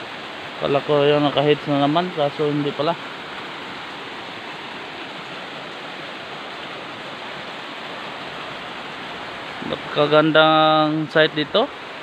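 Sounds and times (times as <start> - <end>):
waterfall rushing onto rocks: 0.0 - 12.0.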